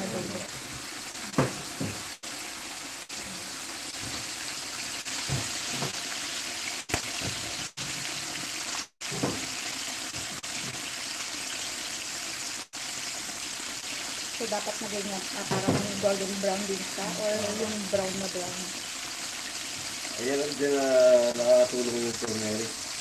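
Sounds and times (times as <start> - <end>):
chicken deep-frying in oil: 0.0 - 23.0.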